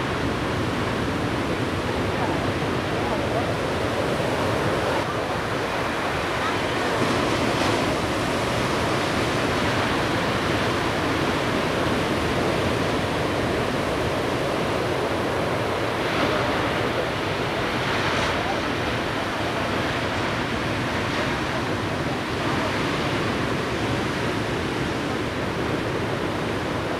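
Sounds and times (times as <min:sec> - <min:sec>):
waves breaking: 0:00.0 - 0:26.9.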